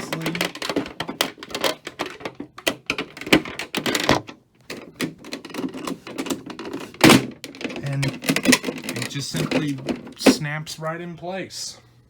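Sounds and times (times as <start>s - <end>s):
plastic parts clicking and knocking: 0.0s - 10.5s.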